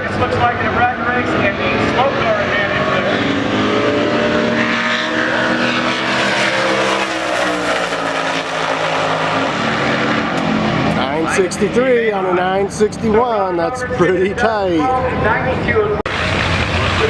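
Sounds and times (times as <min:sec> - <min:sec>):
racing car engines at full throttle: 0:00.0 - 0:17.0.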